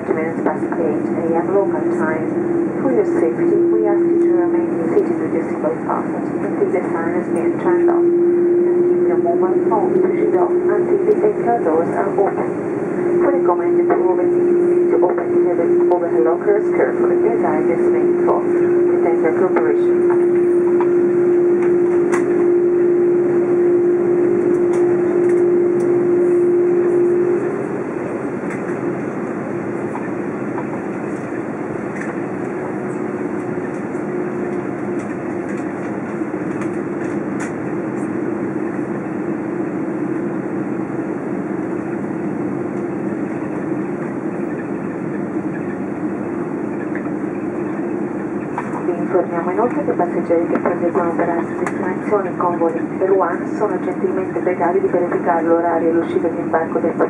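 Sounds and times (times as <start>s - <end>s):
airliner cabin engine rumble: 0.0s - 57.0s
strong steady hum: 0.0s - 57.0s.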